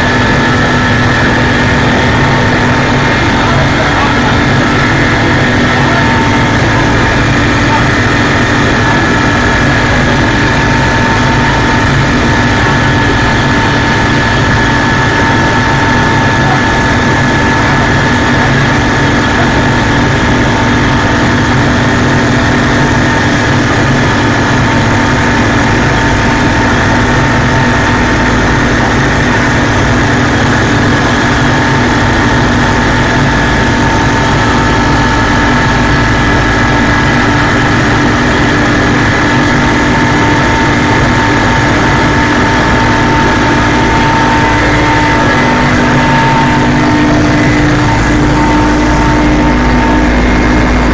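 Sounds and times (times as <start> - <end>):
helicopter engine and rotor noise: 0.0 - 50.9
high whine: 0.0 - 50.9.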